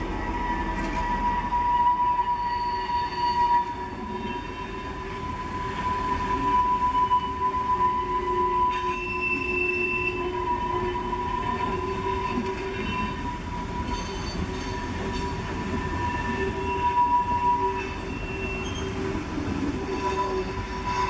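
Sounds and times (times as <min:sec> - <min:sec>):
low rumble of rolling coaches: 0:00.0 - 0:21.0
train wheels squealing on rails: 0:00.0 - 0:21.0.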